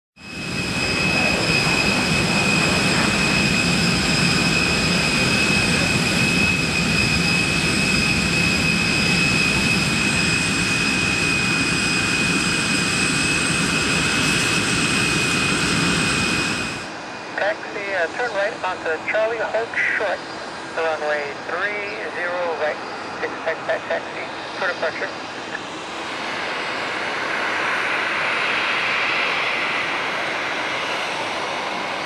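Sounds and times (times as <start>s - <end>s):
high-pitched engine whine: 0.2s - 32.0s
jet engines rumbling: 0.2s - 32.0s.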